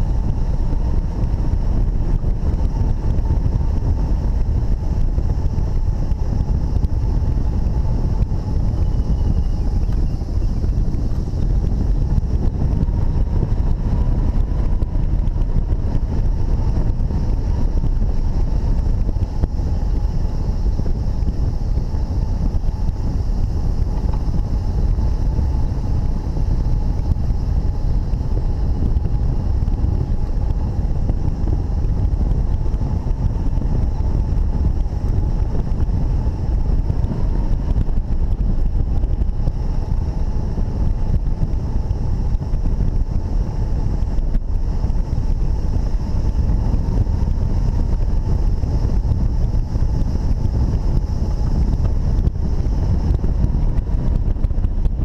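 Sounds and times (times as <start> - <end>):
faint high whine: 0.0 - 55.0
wind buffeting microphone: 0.0 - 55.0.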